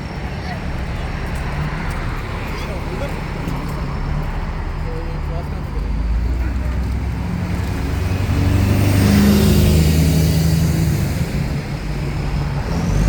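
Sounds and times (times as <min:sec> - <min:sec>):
bus engine accelerating: 0:00.0 - 0:13.0.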